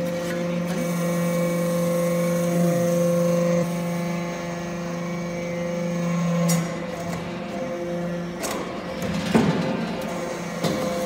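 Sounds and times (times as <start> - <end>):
hydraulic press humming: 0.0 - 11.0.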